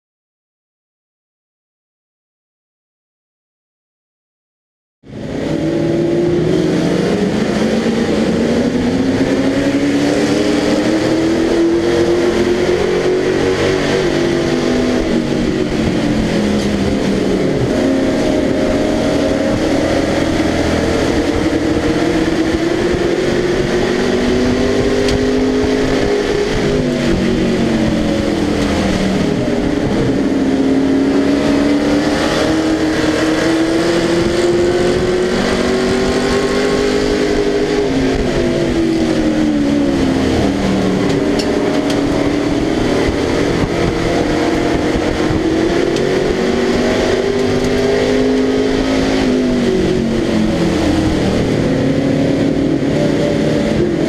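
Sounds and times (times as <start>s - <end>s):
racing engine running hard: 5.0s - 54.0s.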